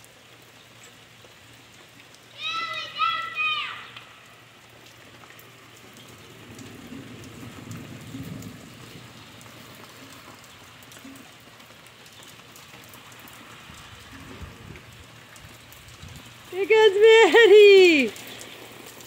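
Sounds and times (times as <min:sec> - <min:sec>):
sharp drips: 0:00.0 - 0:19.0
steady rain falling: 0:00.0 - 0:19.0.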